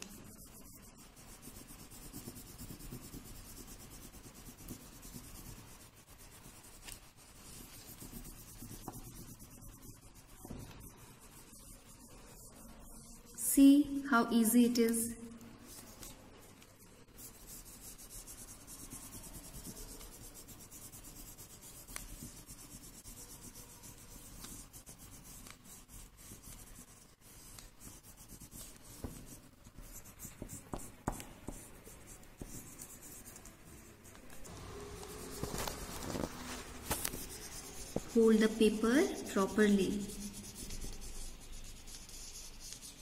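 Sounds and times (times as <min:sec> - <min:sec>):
crayon scratching on paper: 0:00.0 - 0:13.6, 0:15.6 - 0:43.0.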